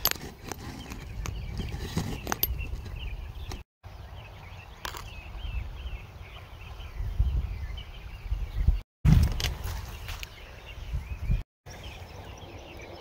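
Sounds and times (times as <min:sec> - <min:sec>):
wind rumble on microphone: 0:00.4 - 0:13.0.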